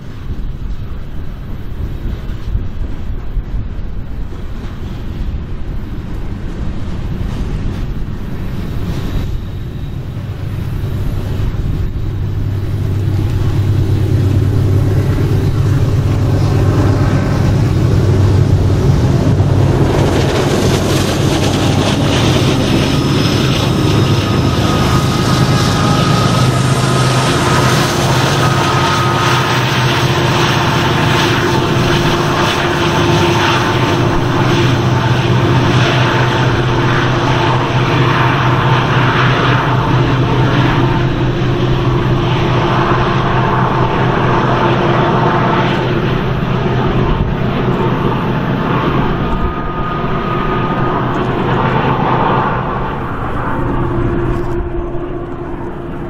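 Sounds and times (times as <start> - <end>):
diesel engine hum with whine: 0.0 - 56.0
train wheels rumbling on rails: 0.0 - 56.0.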